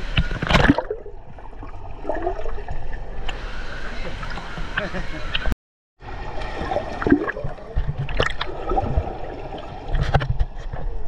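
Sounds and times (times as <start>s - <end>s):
underwater bubbling: 0.0s - 11.0s.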